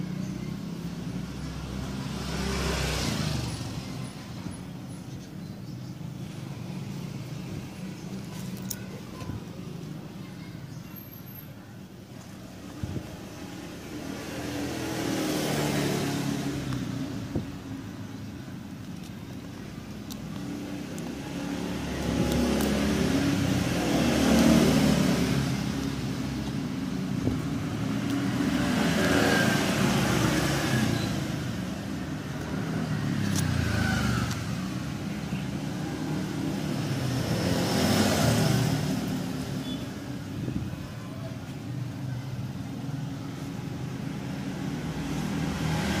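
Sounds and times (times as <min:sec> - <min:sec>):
vehicles passing: 0:00.0 - 0:46.0.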